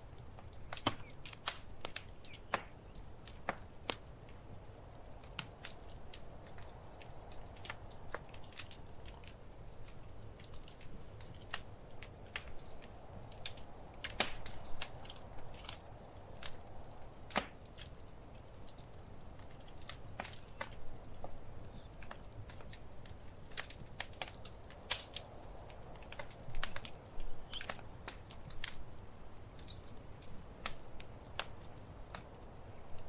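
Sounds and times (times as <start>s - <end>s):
wood fire pops and snaps: 0.0s - 33.0s.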